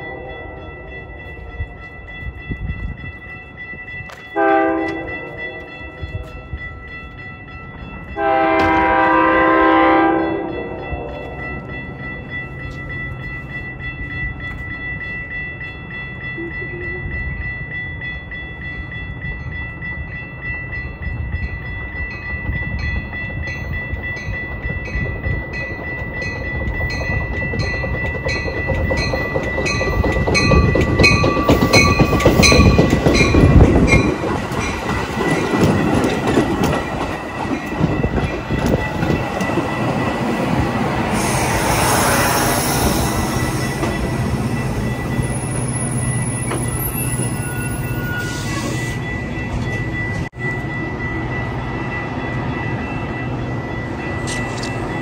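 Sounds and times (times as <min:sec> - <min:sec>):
bell ringing: 0:00.0 - 0:55.0
train rumble and wheel clatter: 0:00.0 - 0:55.0.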